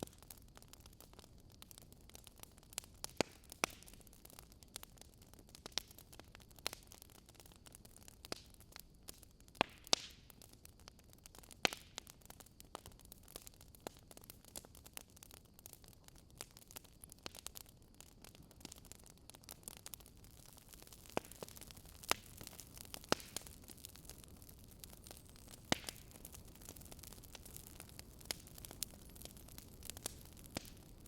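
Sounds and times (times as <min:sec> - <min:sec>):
faint steady hiss: 0:00.0 - 0:31.0
wood fire crackling: 0:00.0 - 0:31.0.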